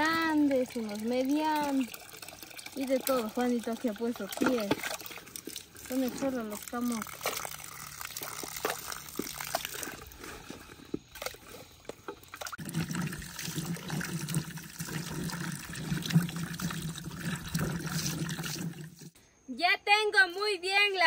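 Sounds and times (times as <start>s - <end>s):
water filling a container: 0.0s - 19.2s
water splashing in a bucket: 0.0s - 19.2s.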